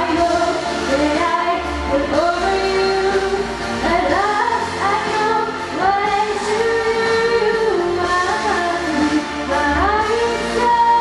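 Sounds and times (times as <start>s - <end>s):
young woman singing: 0.0s - 11.0s.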